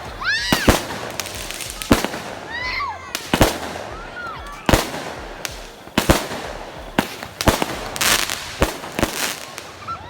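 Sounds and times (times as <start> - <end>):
firecracker crackling burst: 0.0 - 10.0
firework bangs: 0.0 - 10.0.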